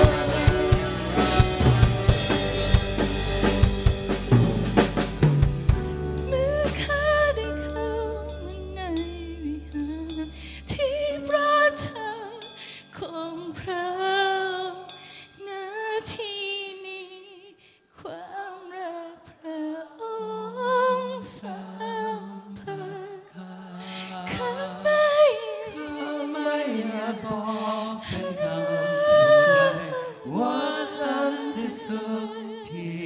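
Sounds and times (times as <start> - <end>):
woman singing worship song: 0.0 - 1.3, 6.3 - 33.0.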